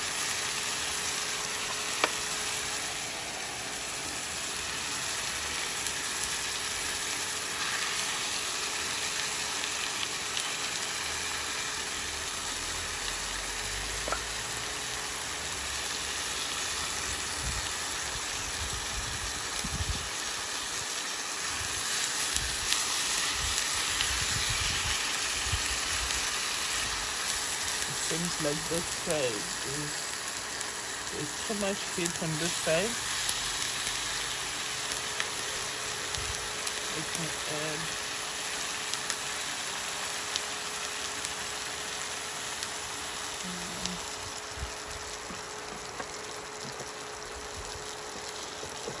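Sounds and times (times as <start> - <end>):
onions sizzling in a pan: 0.0 - 49.0.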